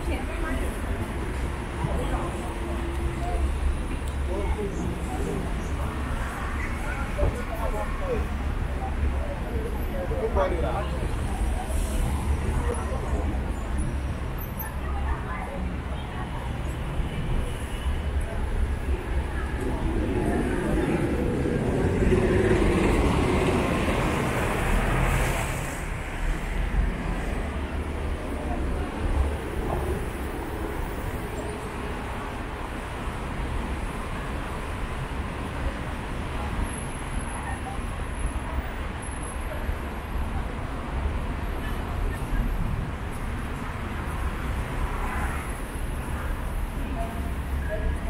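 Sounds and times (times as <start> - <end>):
passing car engines and tyres: 0.0 - 47.5
bus engine close by: 0.0 - 47.8.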